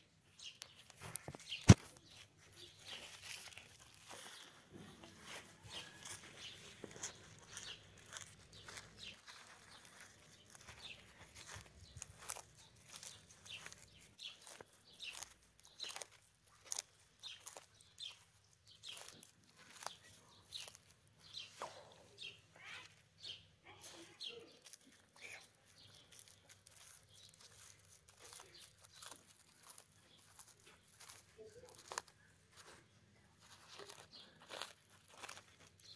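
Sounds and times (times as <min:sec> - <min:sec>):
tortoise crunching leaves: 0:00.0 - 0:35.9.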